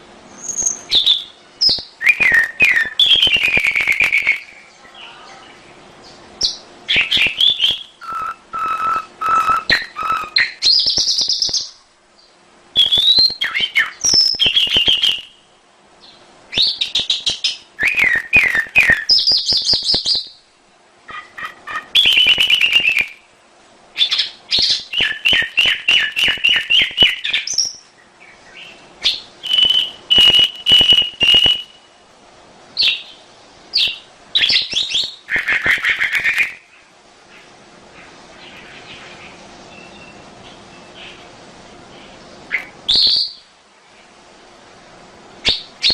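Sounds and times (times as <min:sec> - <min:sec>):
canary singing: 0:00.3 - 0:20.5, 0:21.1 - 0:23.2, 0:24.0 - 0:32.0, 0:32.8 - 0:41.3, 0:41.9 - 0:44.1, 0:45.4 - 0:45.9.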